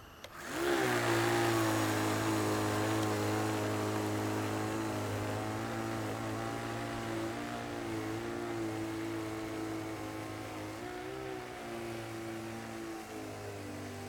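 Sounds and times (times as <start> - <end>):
snow blower motor running: 0.0 - 14.0.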